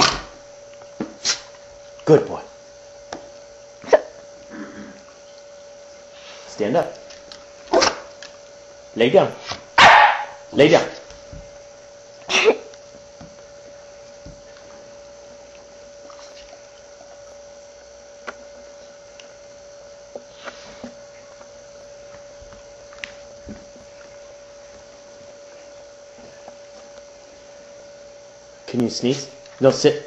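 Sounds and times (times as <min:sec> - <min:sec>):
steady room hum: 0:00.0 - 0:30.0.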